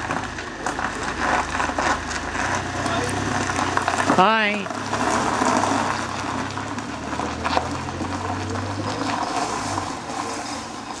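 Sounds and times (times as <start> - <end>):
car engine running: 0.0 - 11.0
tyres crunching on gravel: 0.0 - 11.0.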